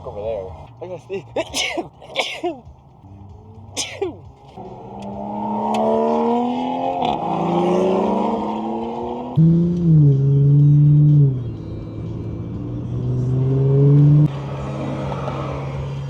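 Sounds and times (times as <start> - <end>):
car engine accelerating hard: 2.7 - 16.0.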